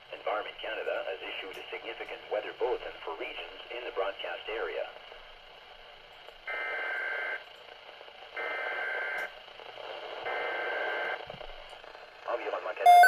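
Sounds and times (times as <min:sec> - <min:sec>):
radio hiss: 0:00.0 - 0:05.8, 0:06.5 - 0:13.0.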